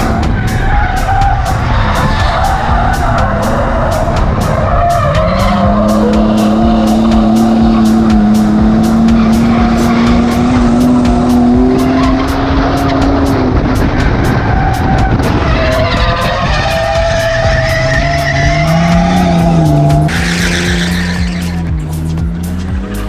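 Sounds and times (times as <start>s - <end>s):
car engine at high revs: 0.0s - 23.0s
tyres skidding and squealing: 0.0s - 23.0s.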